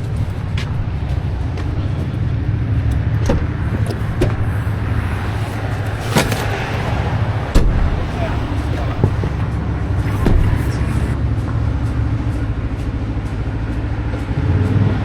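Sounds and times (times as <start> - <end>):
car engine rumbling: 0.0 - 14.2.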